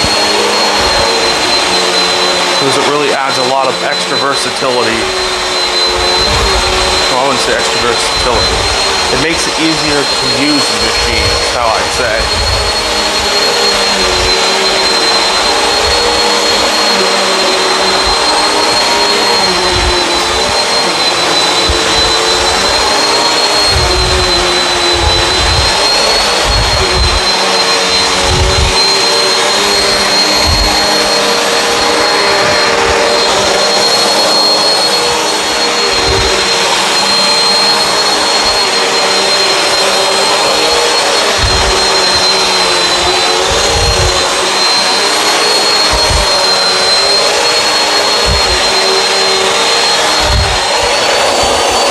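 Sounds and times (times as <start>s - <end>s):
vacuum cleaner on carpet: 0.0s - 51.9s.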